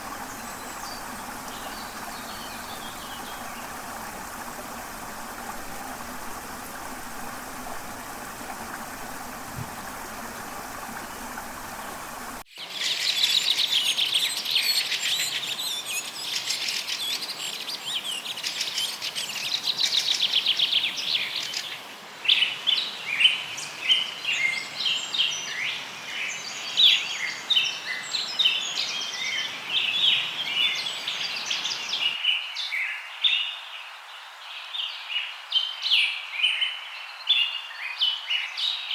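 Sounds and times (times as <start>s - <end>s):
jungle birds chirping and trilling: 0.0s - 38.9s.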